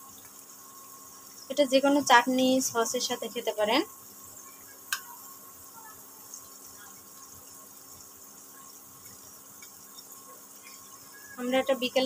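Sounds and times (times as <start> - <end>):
oil sizzling with crackles: 0.0 - 12.0.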